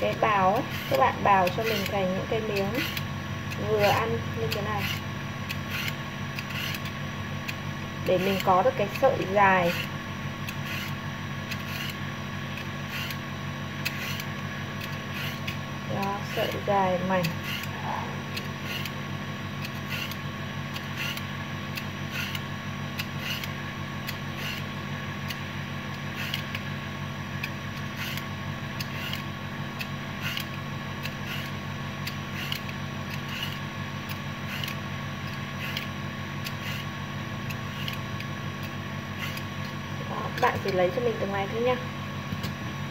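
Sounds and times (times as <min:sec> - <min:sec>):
peeler scraping carrot: 0:00.0 - 0:19.0, 0:19.6 - 0:26.7, 0:27.4 - 0:41.6
steady low hum: 0:00.0 - 0:42.9.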